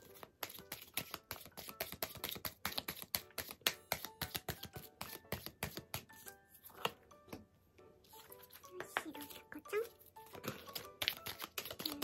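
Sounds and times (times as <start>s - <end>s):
cards being shuffled: 0.0s - 7.0s, 8.1s - 12.0s
soft background music: 0.0s - 12.0s.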